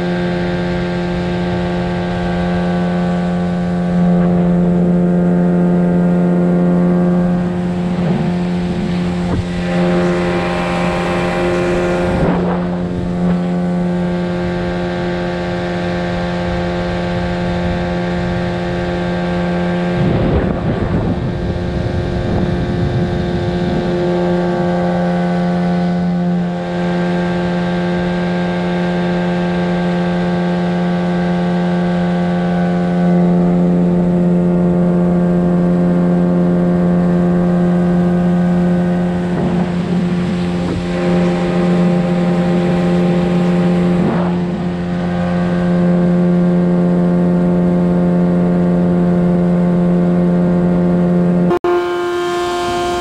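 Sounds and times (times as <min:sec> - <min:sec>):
boat motor running: 0:00.0 - 0:53.0.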